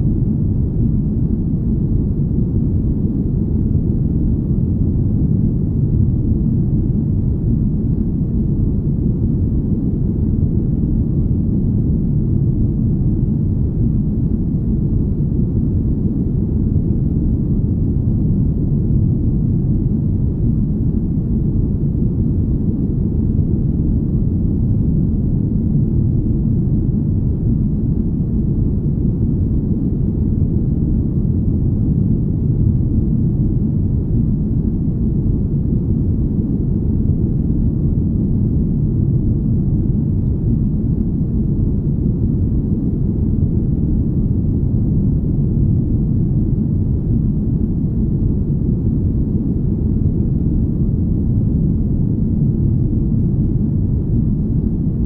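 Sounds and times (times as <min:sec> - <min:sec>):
deep smooth rumble: 0:00.0 - 0:55.0.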